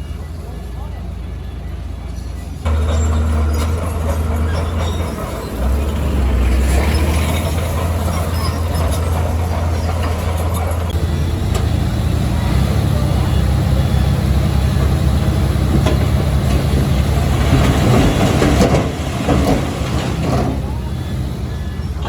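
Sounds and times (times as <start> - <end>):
bulldozer diesel engine under load: 0.0 - 22.0
metallic clanks of tracks: 2.3 - 22.0.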